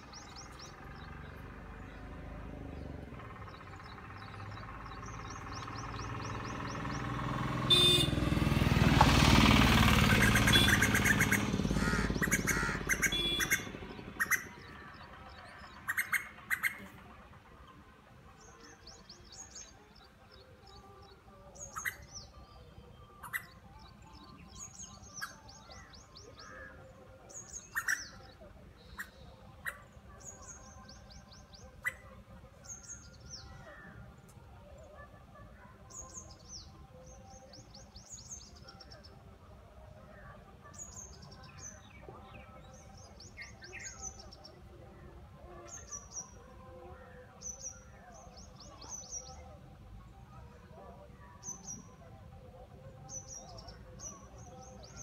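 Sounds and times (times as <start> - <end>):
small songbirds calling: 0.0 - 8.3, 9.0 - 17.0, 18.4 - 35.1, 35.8 - 49.9, 51.0 - 55.0.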